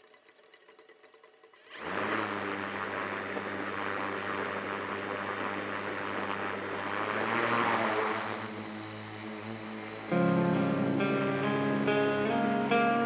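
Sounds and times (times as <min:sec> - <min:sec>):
drone propellers whirring: 0:01.7 - 0:12.8.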